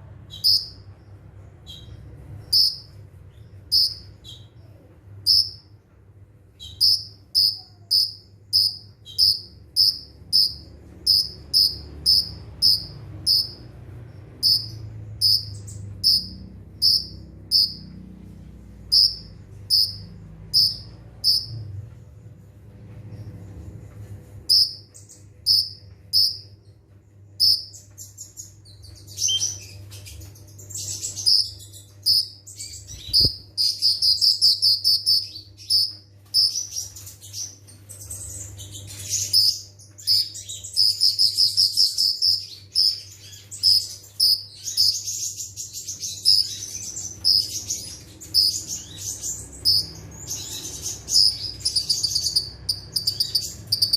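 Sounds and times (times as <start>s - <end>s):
sunbird chips and trilled song: 0.3s - 5.8s, 6.5s - 21.8s, 24.4s - 53.9s.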